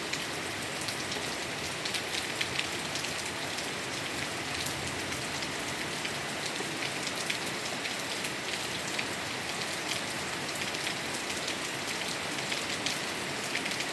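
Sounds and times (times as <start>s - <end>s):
heavy rainfall: 0.0s - 13.9s.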